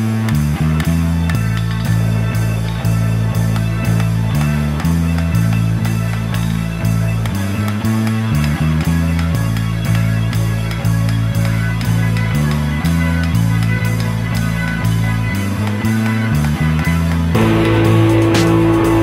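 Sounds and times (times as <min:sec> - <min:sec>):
guitar background music: 0:00.0 - 0:19.0.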